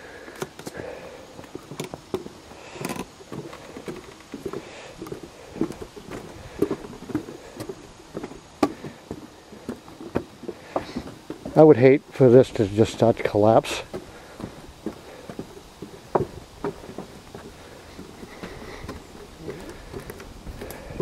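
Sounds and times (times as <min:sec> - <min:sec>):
footsteps on wooden boardwalk: 0:00.0 - 0:21.0.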